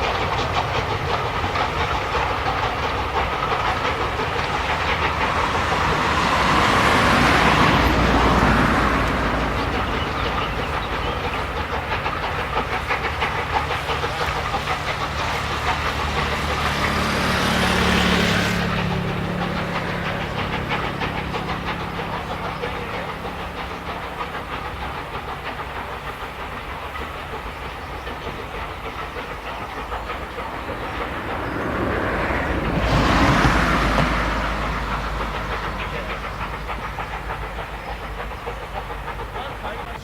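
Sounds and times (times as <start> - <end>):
steam hiss: 0.0 - 40.0
train wheels clicking on rails: 0.0 - 40.0.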